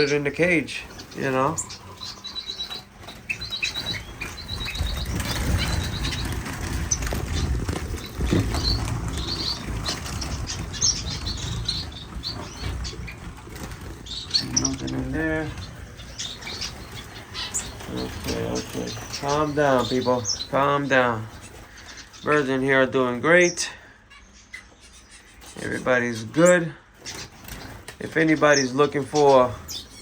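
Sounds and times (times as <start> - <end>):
birds flapping wings: 0.0 - 22.2, 25.5 - 30.0
finches chirping: 0.0 - 30.0.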